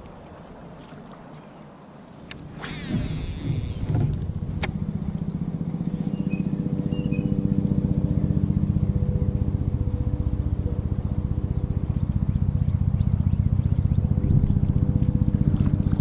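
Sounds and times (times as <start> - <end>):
small engine running: 2.4 - 16.0.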